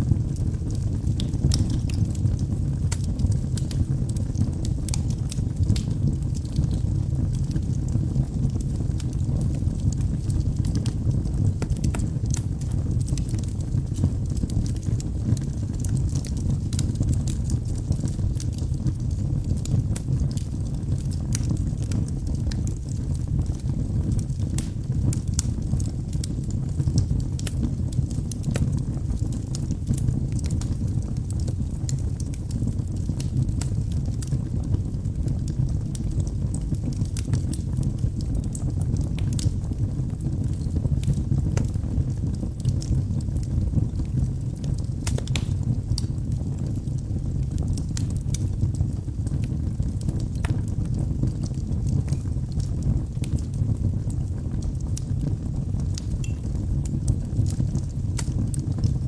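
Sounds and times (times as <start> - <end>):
burning logs crackling and popping: 0.0 - 59.0
flames rushing: 0.0 - 59.0.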